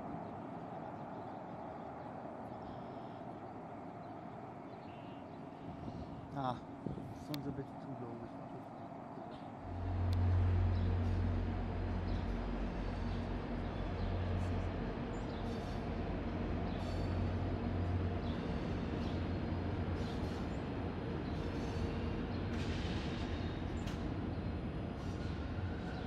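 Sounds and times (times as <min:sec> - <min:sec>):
train rumbling on elevated track: 0:00.0 - 0:26.0.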